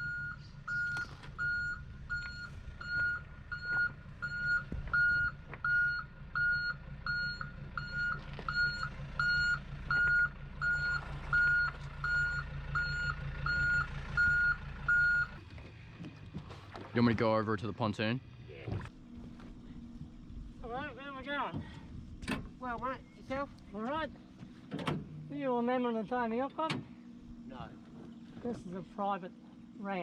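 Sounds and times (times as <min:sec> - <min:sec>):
engine idling low rumble: 0:00.0 - 0:30.0.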